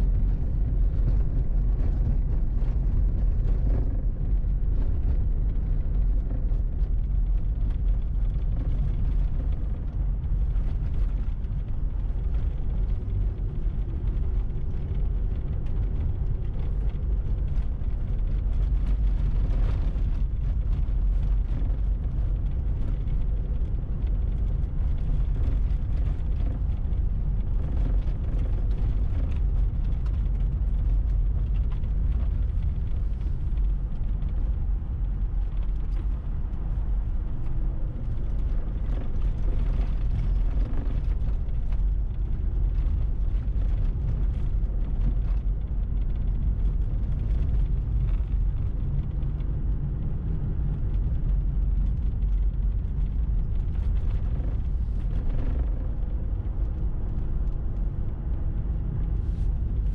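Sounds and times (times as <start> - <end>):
car tyres and engine rumbling: 0.0 - 59.9.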